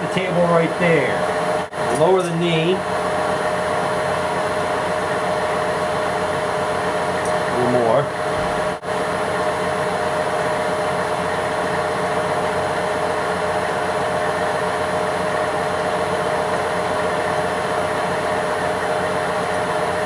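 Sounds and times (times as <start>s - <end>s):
milling machine whining: 0.0s - 20.0s.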